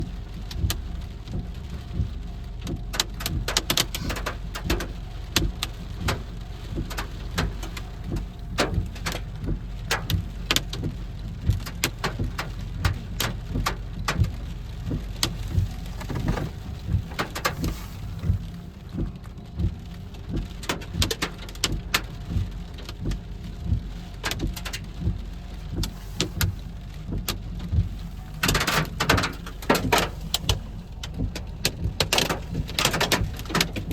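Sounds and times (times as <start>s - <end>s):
low rumble: 0.0s - 33.9s
rain pattering: 0.0s - 33.9s.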